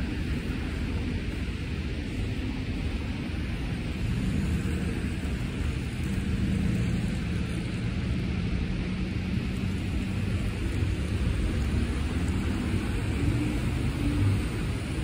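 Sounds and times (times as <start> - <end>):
low engine hum: 0.0 - 15.0
rumble of passing cars: 0.0 - 15.0.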